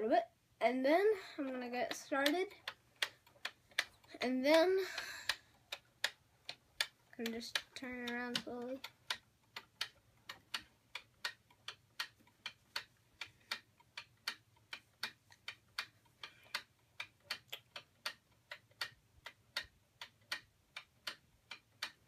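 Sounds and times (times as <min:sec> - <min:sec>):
toy clock ticking: 0:00.1 - 0:22.0.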